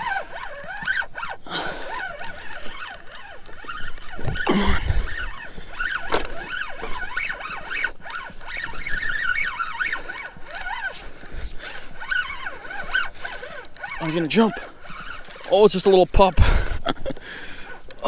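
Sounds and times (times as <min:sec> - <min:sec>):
fishing reel gear whine: 0:00.0 - 0:18.0.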